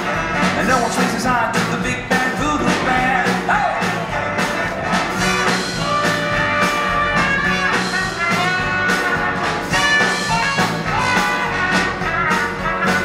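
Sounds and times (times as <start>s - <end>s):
brass riff: 0.0s - 13.0s
swing band playing: 0.0s - 13.0s.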